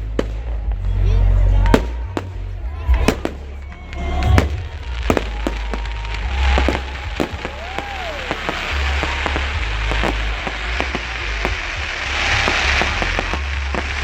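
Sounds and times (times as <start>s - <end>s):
fireworks bangs and crackles: 0.0s - 14.0s
low rumble: 0.0s - 14.0s.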